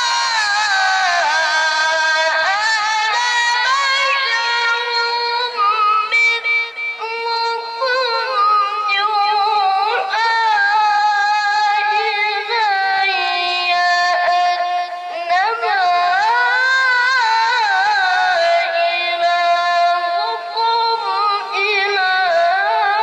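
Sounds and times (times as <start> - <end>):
child reciting melodically: 0.0 - 23.0.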